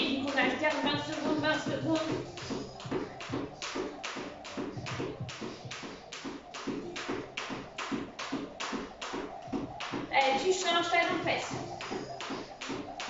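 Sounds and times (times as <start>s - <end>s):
jump rope slapping tiled floor: 0.0s - 13.0s.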